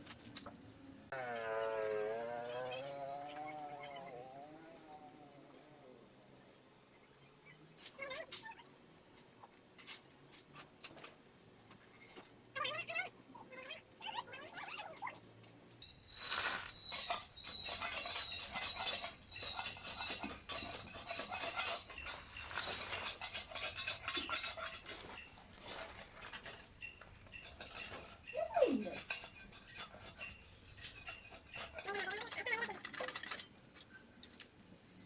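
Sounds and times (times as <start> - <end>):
metal clinking and scraping: 0.0 - 35.0.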